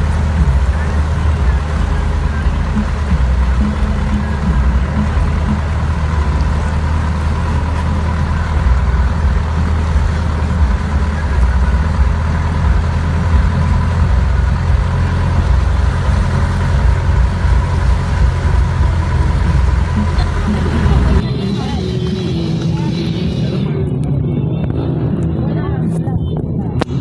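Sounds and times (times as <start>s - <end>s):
water churning and splashing: 0.0s - 22.2s
vehicle engine rumbling: 0.0s - 27.0s.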